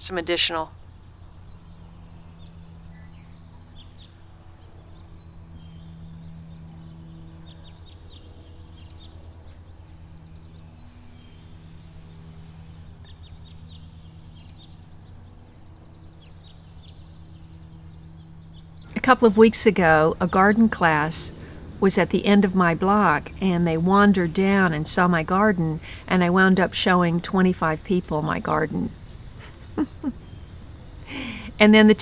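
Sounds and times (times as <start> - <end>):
steady low hum: 0.0 - 32.0
small birds chirping: 0.2 - 32.0.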